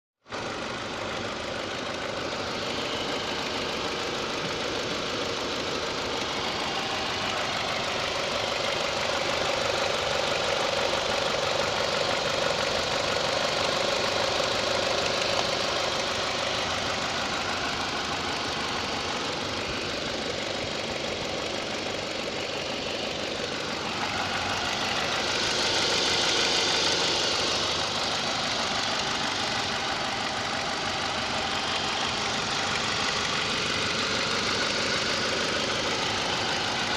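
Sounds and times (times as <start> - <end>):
car engine running with knock: 0.3 - 36.9.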